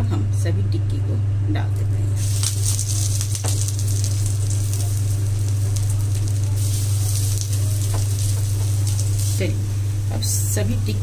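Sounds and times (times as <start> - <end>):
steady low hum: 0.0 - 11.0
oil sizzling and crackling: 2.2 - 11.0.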